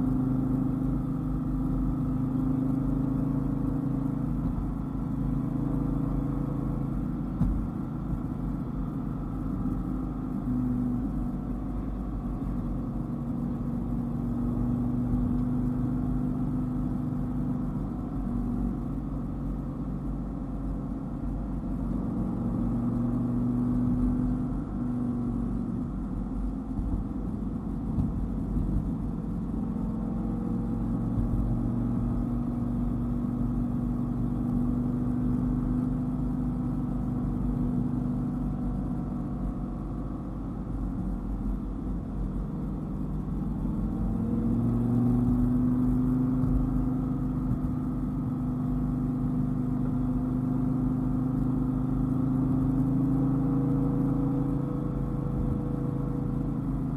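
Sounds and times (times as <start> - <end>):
car engine running: 0.0 - 56.9.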